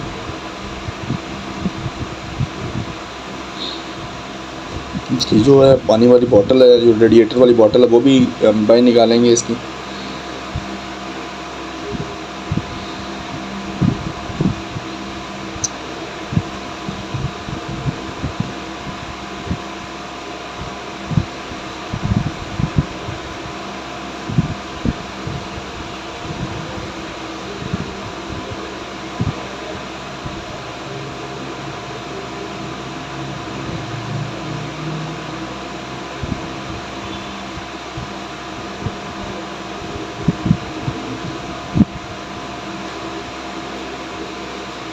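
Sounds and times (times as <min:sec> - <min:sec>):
steady fan-like hum: 0:00.0 - 0:44.9.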